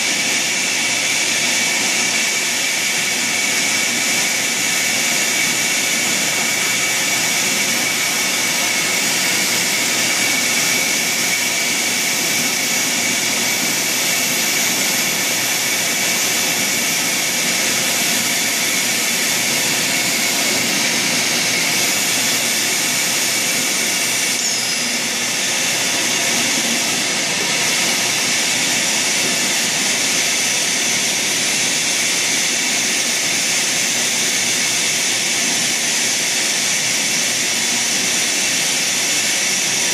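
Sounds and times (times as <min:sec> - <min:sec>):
high machine whine: 0:00.0 - 0:39.9
machine hiss and hum: 0:00.0 - 0:39.9.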